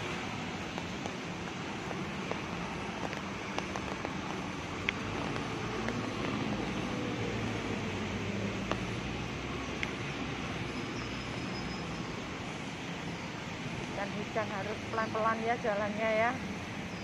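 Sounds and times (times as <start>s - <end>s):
rain hissing on a wet street: 0.0s - 17.0s
road traffic hum: 0.0s - 17.0s.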